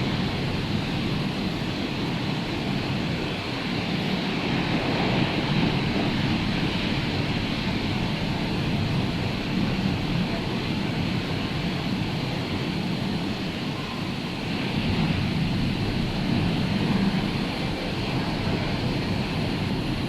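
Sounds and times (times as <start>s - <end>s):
rough sea surf breaking: 0.0s - 20.0s
wind buffeting microphone: 0.0s - 20.0s.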